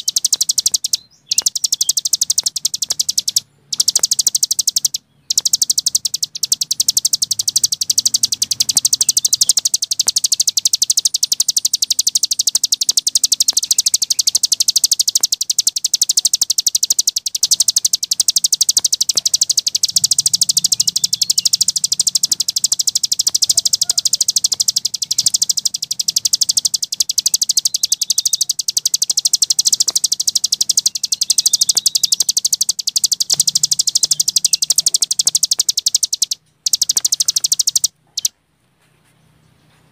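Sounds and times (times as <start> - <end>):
songbird fast rattling chatter: 0.0 - 38.3.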